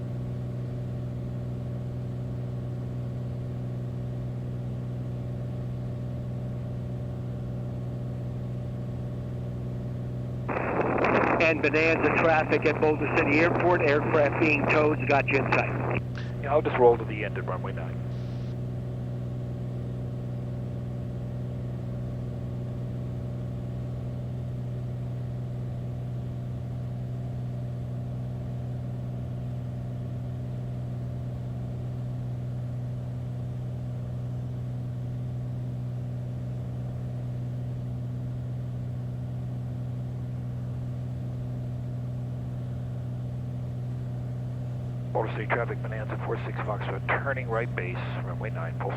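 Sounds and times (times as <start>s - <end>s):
airplane engine and propeller droning: 0.0s - 48.9s.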